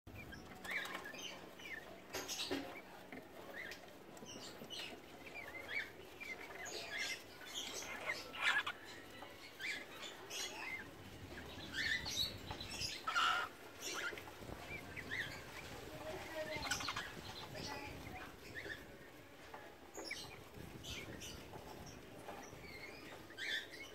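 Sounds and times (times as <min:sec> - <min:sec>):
soft squeaky bird chirps: 0:00.1 - 0:19.0, 0:19.9 - 0:23.9.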